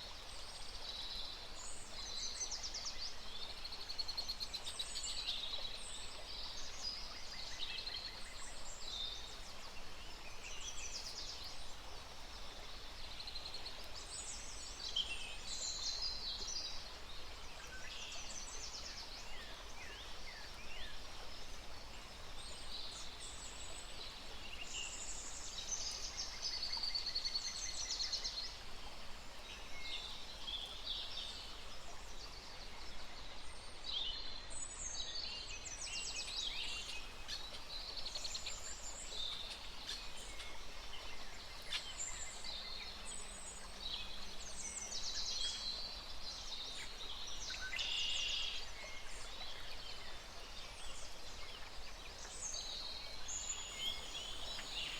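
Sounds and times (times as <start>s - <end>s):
steady background hiss: 0.0s - 54.9s.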